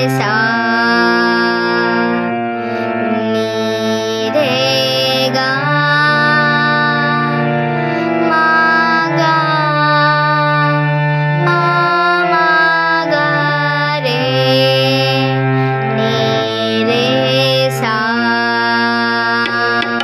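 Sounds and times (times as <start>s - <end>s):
girl singing: 0.0s - 20.0s
harmonium: 0.0s - 20.0s.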